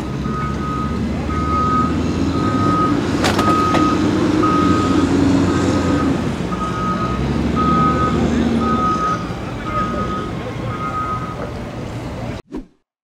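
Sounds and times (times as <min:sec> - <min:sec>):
vehicle reversing alarm beeping: 0:00.0 - 0:11.5.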